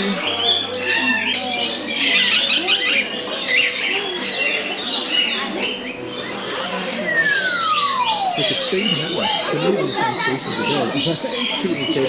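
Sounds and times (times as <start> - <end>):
parrots squawking and chattering: 0.0 - 12.0.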